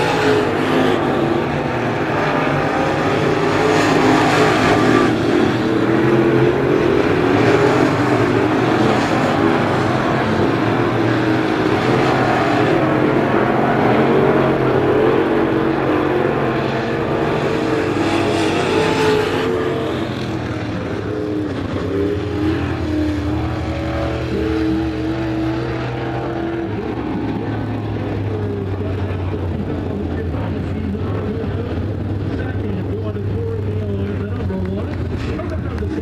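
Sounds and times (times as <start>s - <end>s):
race car engines passing: 0.0s - 36.0s.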